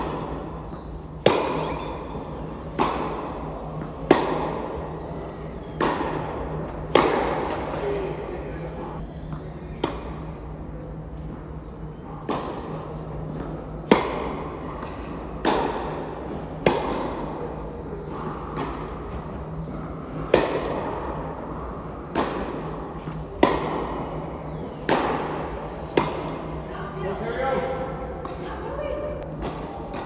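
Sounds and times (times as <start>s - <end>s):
tennis balls struck by rackets: 0.0s - 11.4s, 12.2s - 26.6s.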